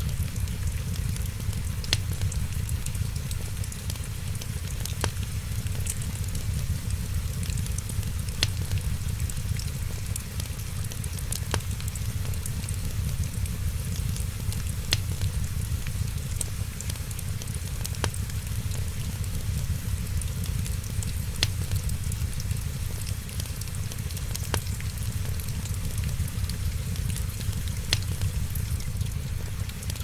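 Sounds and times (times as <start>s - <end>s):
burning wood popping: 0.0s - 30.0s
wood fire crackling: 0.0s - 30.0s.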